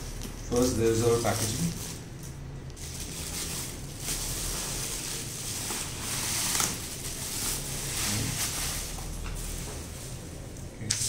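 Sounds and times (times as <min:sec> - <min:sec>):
plastic packing material crinkling: 0:00.0 - 0:11.0.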